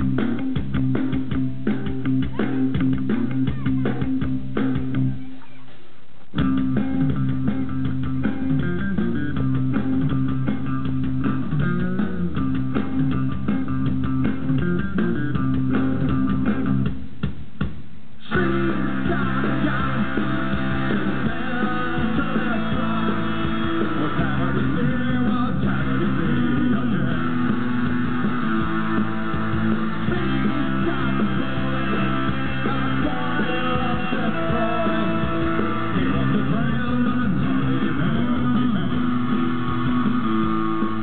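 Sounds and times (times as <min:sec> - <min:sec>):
live rock band playing: 0:00.0 - 0:05.2, 0:06.4 - 0:17.0, 0:18.3 - 0:41.0.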